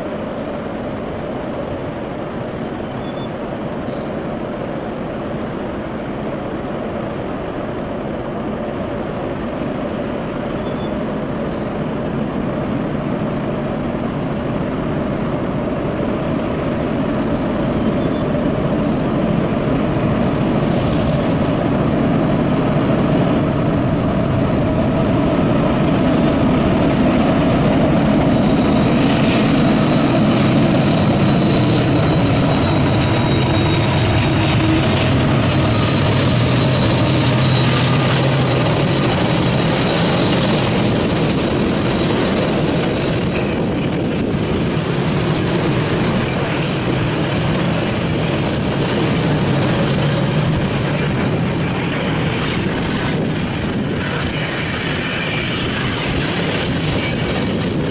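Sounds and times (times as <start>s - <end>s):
diesel locomotives working hard: 0.0s - 57.9s.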